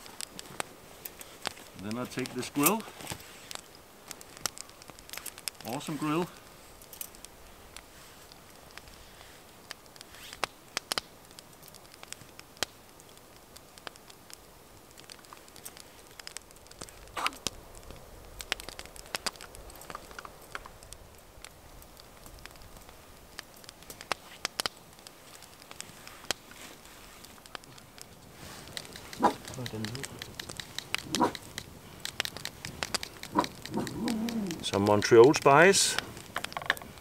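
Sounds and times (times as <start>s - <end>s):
fire popping: 0.0s - 37.0s
kindling fire crackling: 0.0s - 37.0s.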